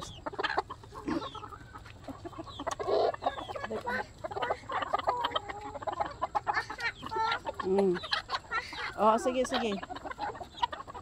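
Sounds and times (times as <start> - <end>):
hens and roosters clucking: 0.0 - 11.0.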